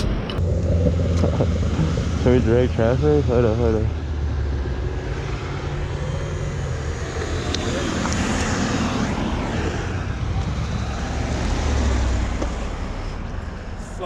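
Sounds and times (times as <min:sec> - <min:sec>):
motorcycle engine running: 0:00.0 - 0:13.7
road traffic: 0:00.0 - 0:14.0.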